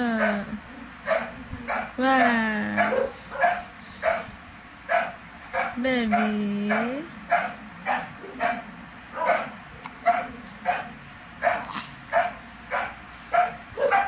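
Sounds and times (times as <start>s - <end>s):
dog barking: 0.2s - 4.3s, 4.9s - 14.0s.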